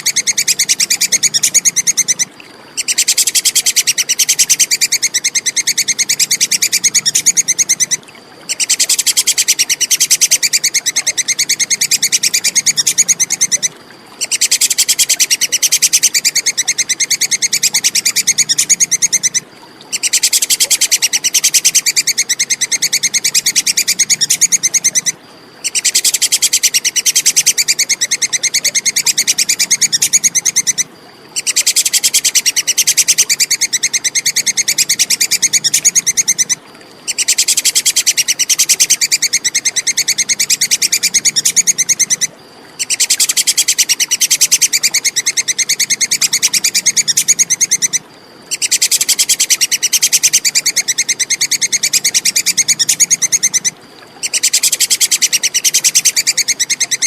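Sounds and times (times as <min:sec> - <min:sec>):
squirrel high-pitched chattering call: 0:00.0 - 0:57.0.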